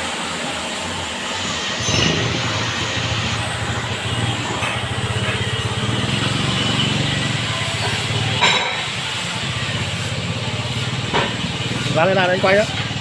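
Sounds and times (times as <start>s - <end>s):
motor droning: 0.8s - 13.0s.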